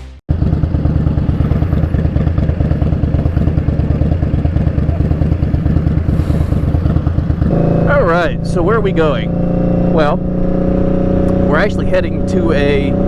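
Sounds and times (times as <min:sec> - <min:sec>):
motorcycle engine running: 0:00.3 - 0:13.0.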